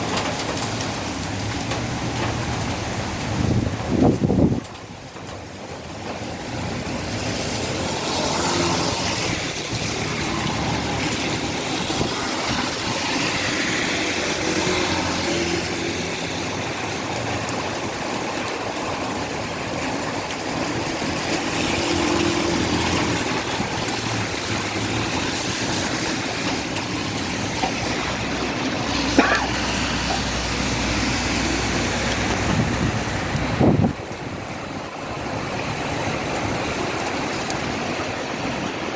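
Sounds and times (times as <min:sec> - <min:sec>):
wind rumble on microphone: 0:00.0 - 0:29.1, 0:29.7 - 0:38.9
heavy rain hissing: 0:00.0 - 0:38.9
strong wind gusts: 0:00.0 - 0:38.9.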